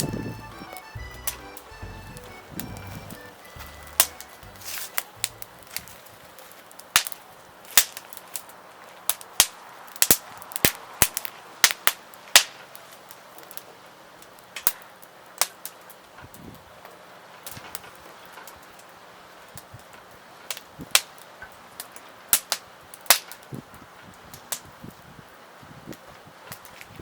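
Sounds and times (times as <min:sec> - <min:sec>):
faint hiss of burning: 0:00.0 - 0:27.0
wood fire crackling and popping: 0:00.0 - 0:27.0.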